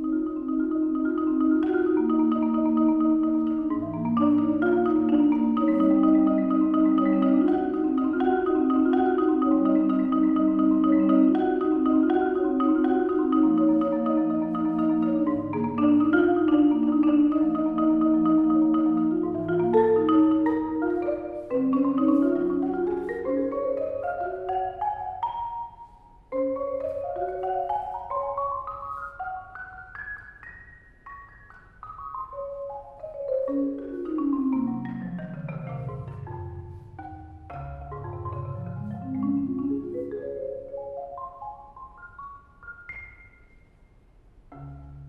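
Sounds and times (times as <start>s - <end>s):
marimba rolled chords and runs: 0.0s - 43.7s, 44.5s - 45.0s.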